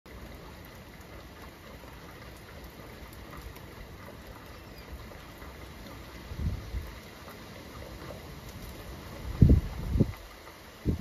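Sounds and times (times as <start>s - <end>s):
raindrop ticks: 0.1s - 11.0s
steady rain hiss: 0.1s - 11.0s.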